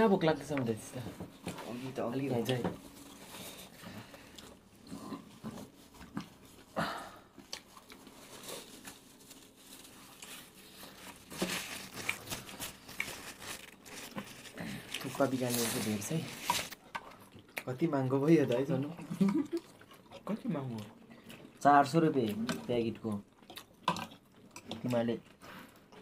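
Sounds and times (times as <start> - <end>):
people chewing and biting food: 1.0 - 26.0.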